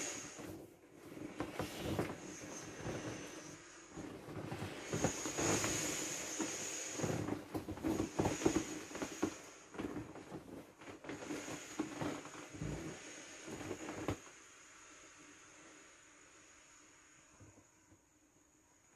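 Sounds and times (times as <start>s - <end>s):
air hissing out of swim ring: 0.0s - 10.4s, 11.0s - 18.9s.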